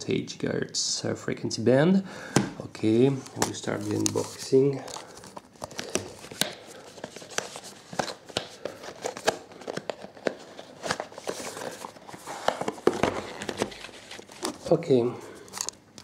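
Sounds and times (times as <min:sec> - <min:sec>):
packaging crinkling and rustling: 0:02.8 - 0:16.0.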